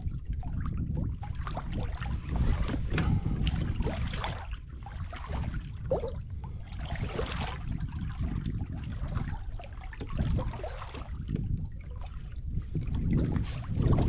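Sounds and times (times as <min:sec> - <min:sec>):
water lapping against kayak hull: 0:00.0 - 0:14.0
wind rumble on microphone: 0:00.0 - 0:14.0.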